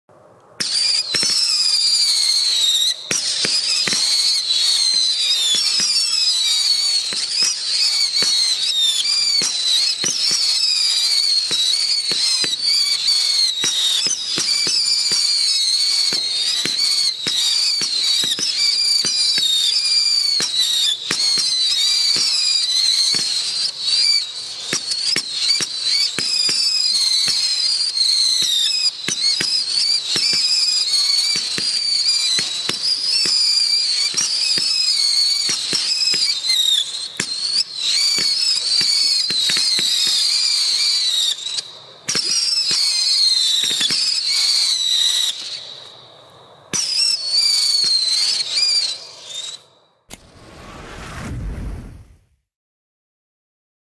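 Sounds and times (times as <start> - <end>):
firework pops: 0.6 - 2.3, 3.1 - 40.5, 41.3 - 44.4, 46.7 - 52.2
high-pitched wavering whistles: 0.6 - 46.0, 46.7 - 52.1.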